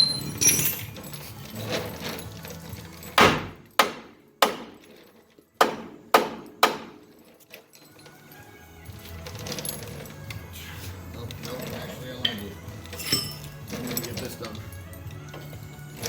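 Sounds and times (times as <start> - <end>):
tools scraping and clinking: 0.0 - 3.8, 4.7 - 5.6, 6.5 - 16.0.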